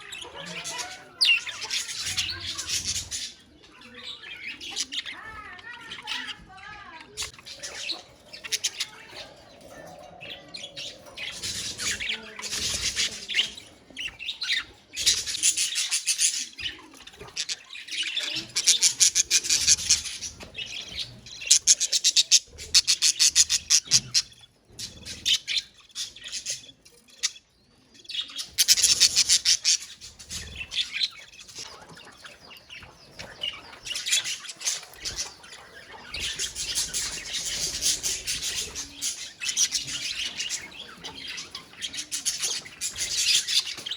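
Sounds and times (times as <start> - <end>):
budgerigars chattering and chirping: 0.0 - 43.9.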